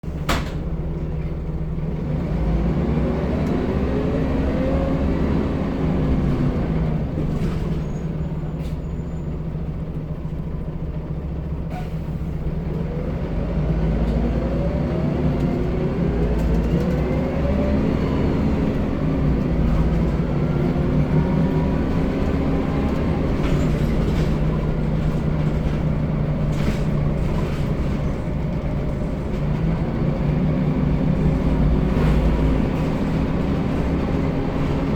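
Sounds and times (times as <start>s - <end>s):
bus engine accelerating: 0.0s - 34.9s.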